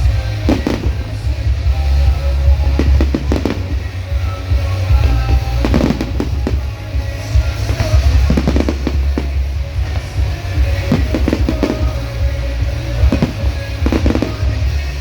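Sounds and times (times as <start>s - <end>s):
deep booming rumble: 0.0s - 15.0s
fireworks bangs: 0.0s - 15.0s
music playing: 0.0s - 15.0s.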